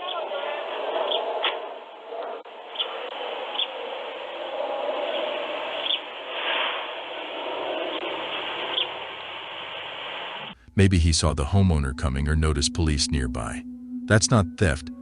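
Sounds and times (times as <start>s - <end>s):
outdoor ambience hiss: 0.0s - 14.9s.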